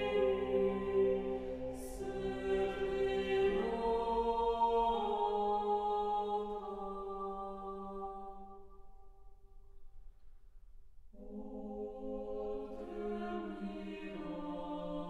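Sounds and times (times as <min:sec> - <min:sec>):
choir singing chant: 0:00.0 - 0:08.8, 0:11.2 - 0:15.0.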